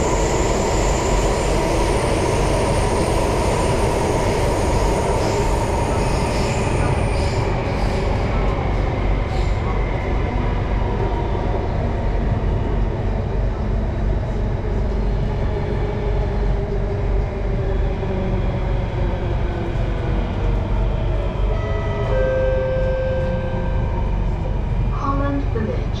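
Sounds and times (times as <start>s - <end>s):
train wheels rumbling on rail: 0.0s - 22.1s.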